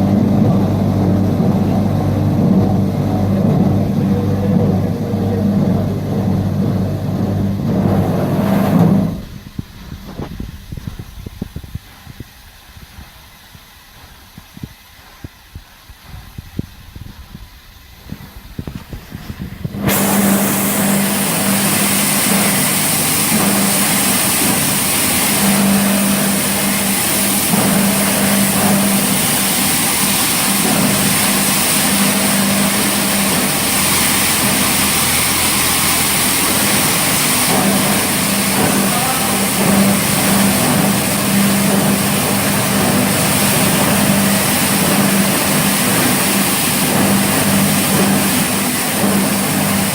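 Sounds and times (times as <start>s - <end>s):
low rumble: 0.0s - 45.6s
machinery hissing and humming: 0.0s - 49.9s.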